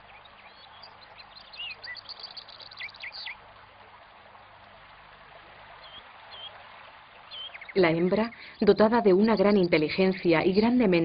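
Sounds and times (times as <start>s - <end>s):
goldfinches twittering: 0.0s - 3.5s, 5.6s - 11.0s
faint steady hiss: 0.0s - 11.0s.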